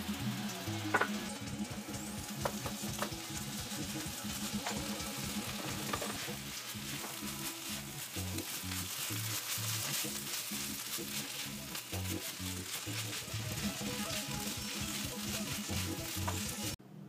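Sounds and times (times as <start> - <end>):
food sizzling in a frying pan: 0.0 - 16.8
wooden spatula scraping a pan: 2.4 - 16.7.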